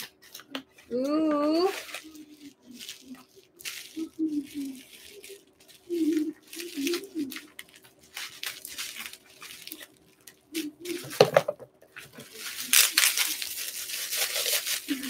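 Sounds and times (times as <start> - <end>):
packing wrap crinkling: 1.4 - 15.0.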